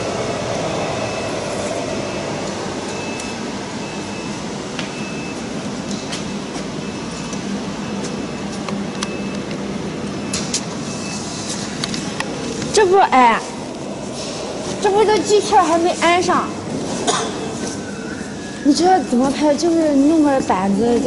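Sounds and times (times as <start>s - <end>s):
factory machinery hum: 0.0s - 21.0s.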